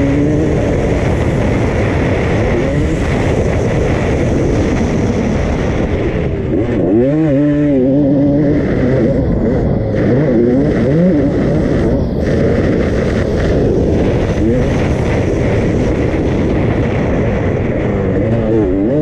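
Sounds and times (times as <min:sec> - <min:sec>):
dense rushing noise: 0:00.0 - 0:19.0
motorcycle engine revving: 0:00.0 - 0:19.0.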